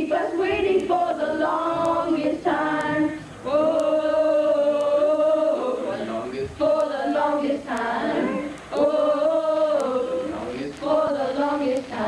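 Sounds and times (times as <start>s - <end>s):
children singing a cappella: 0.0s - 12.0s.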